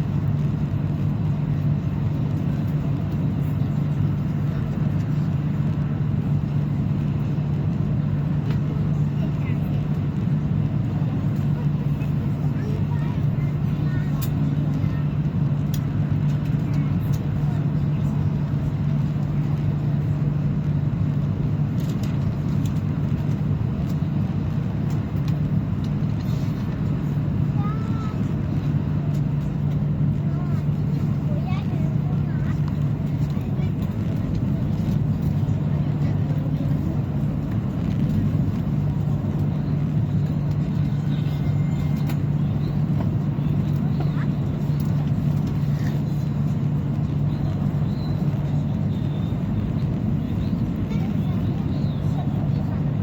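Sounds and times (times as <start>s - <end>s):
train rumbling inside carriage: 0.0s - 53.0s.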